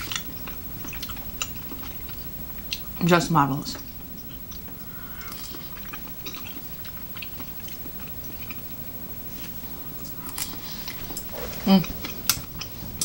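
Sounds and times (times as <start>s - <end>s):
person chewing with wet clicks: 0.0s - 3.0s, 3.8s - 13.0s.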